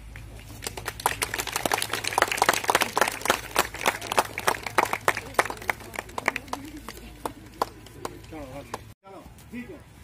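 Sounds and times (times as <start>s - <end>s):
small group applauding: 0.2s - 8.9s.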